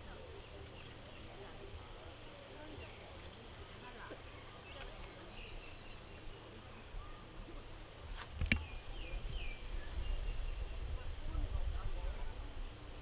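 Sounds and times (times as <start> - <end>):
small birds chirping: 0.0 - 7.6, 8.2 - 11.3.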